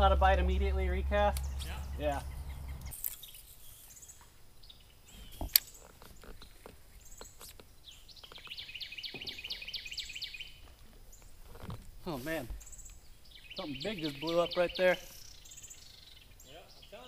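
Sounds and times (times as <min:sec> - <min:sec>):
bird chirping rapidly: 0:00.0 - 0:11.2, 0:12.2 - 0:17.0.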